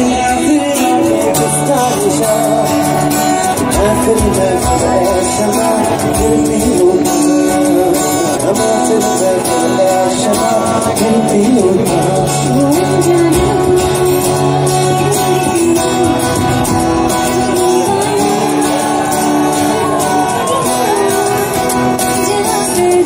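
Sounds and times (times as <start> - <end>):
instrumental accompaniment: 0.0 - 23.0
people singing: 0.0 - 23.0.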